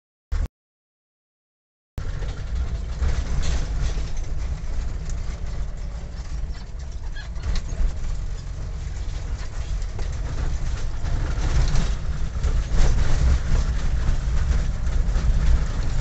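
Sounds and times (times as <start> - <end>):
vehicle engine rumbling: 2.0 - 16.0.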